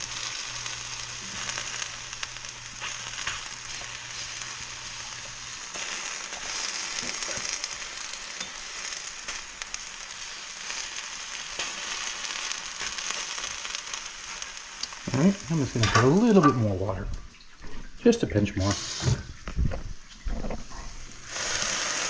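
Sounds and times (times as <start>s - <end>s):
oil sizzling in a pan: 0.0s - 22.0s
small crackles and pops: 0.0s - 22.0s.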